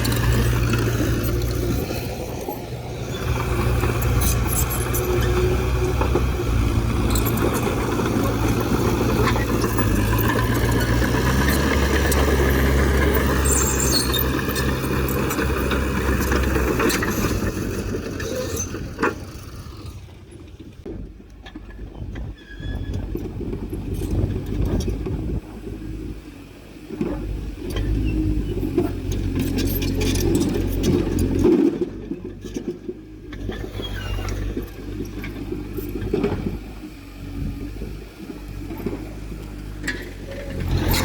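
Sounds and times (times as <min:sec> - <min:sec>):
diesel engine running: 0:00.0 - 0:22.1, 0:22.9 - 0:41.0.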